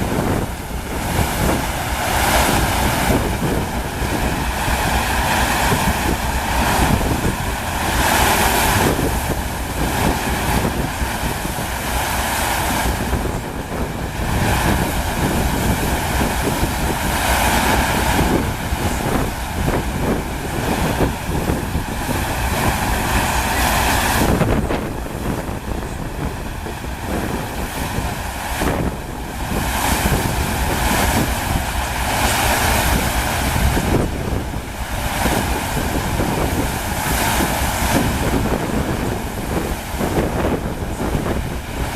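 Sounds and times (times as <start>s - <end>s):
water rushing over surface: 0.0s - 41.9s
wind buffeting microphone: 0.0s - 41.9s.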